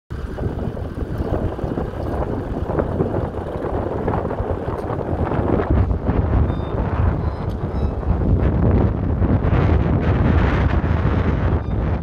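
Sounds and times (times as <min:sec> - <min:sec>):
tractor engine running under load: 0:00.1 - 0:12.0
wind buffeting microphone: 0:00.1 - 0:12.0.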